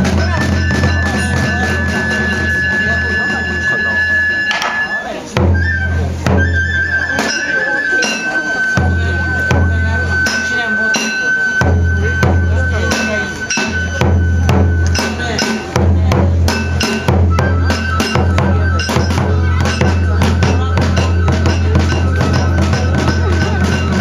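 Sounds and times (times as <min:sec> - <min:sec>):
clacking percussion: 0:00.0 - 0:24.0
high held tone: 0:00.0 - 0:24.0
large drum beaten rhythmically: 0:00.0 - 0:24.0.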